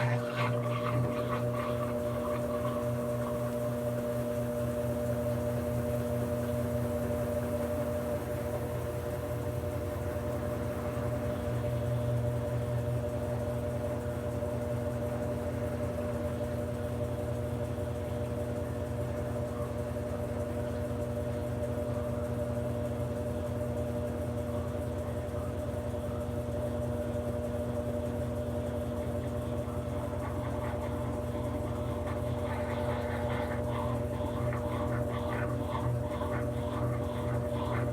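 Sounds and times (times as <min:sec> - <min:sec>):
washing machine motor hum: 0:00.0 - 0:37.9.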